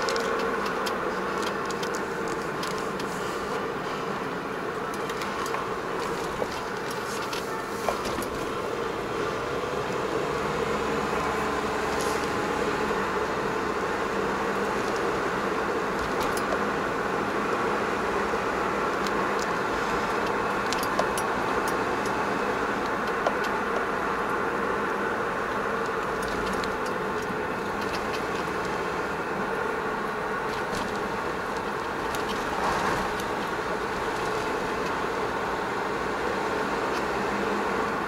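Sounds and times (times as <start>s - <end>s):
car engine and road hum: 0.0s - 38.0s.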